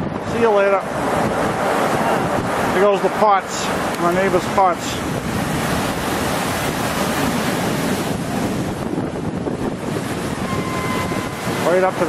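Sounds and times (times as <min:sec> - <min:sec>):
floodwater rushing: 0:00.0 - 0:12.0
waves crashing over seawall: 0:00.0 - 0:12.0
wind buffeting microphone: 0:00.0 - 0:12.0.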